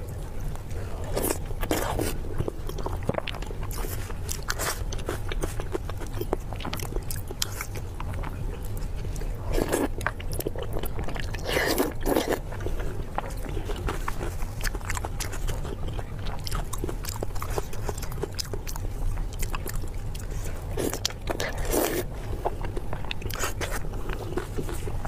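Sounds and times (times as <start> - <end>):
person chewing wetly: 0.0 - 25.0
steady low hum: 0.0 - 25.0.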